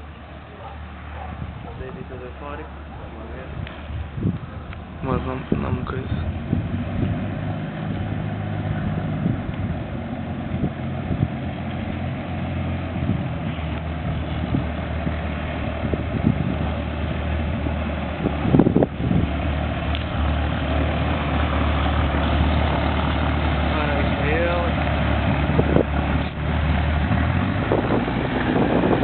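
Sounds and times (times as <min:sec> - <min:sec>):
plane engine idling: 0:00.0 - 0:29.0.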